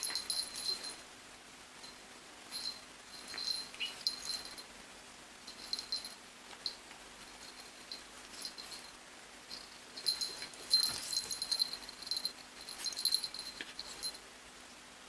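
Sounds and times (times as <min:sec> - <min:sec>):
collar tags jingling: 0:00.0 - 0:01.1, 0:01.8 - 0:04.7, 0:05.4 - 0:14.3.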